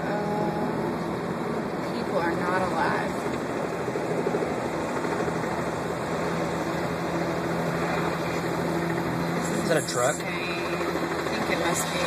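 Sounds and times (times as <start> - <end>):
helicopter rotors and engine: 0.0 - 12.0.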